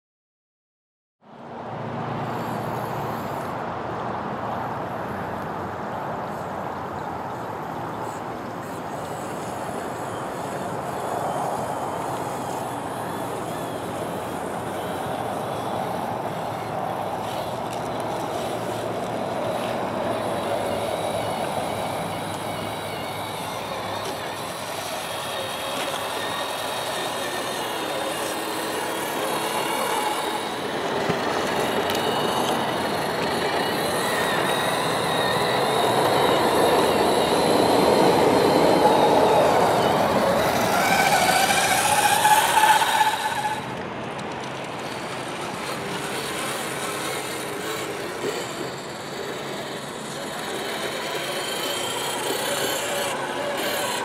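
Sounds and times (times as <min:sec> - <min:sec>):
electric motors whining: 0:08.0 - 0:54.0.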